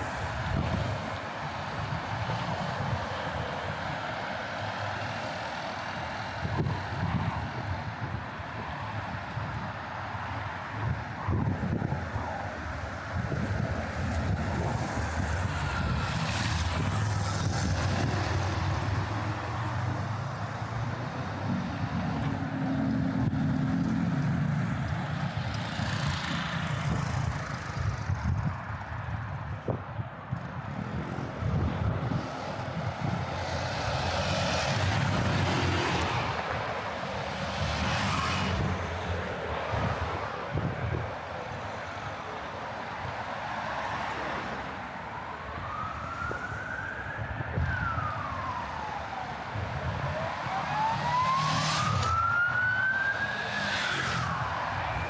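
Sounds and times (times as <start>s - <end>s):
emergency vehicle siren wailing: 0.0s - 28.6s, 30.6s - 55.0s
vehicles passing: 0.0s - 55.0s.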